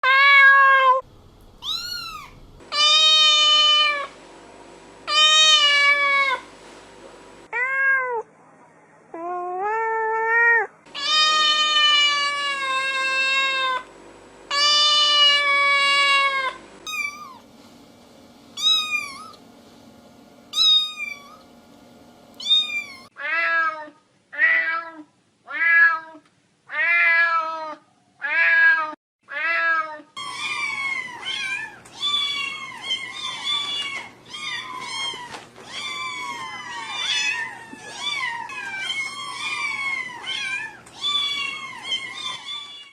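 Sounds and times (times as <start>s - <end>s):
cat howling and meowing: 0.0s - 1.0s, 1.6s - 4.1s, 5.1s - 6.4s, 9.1s - 13.8s, 14.5s - 17.4s, 18.6s - 19.4s, 20.6s - 21.4s, 22.4s - 42.9s.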